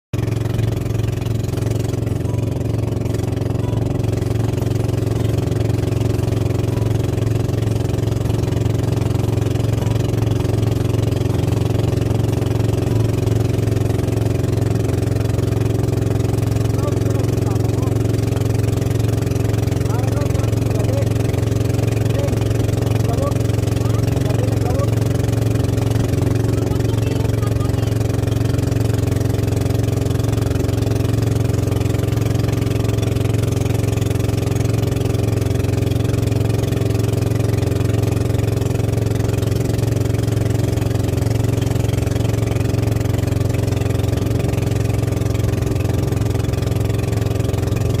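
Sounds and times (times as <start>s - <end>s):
boat engine running: 0.1s - 48.0s.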